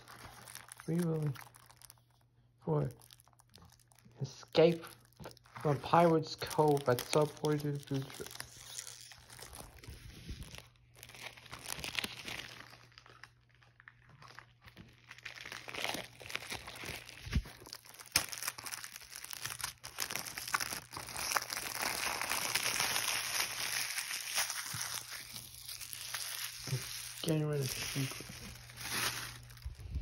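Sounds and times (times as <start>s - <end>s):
plastic wrap crinkling: 0.0s - 30.0s.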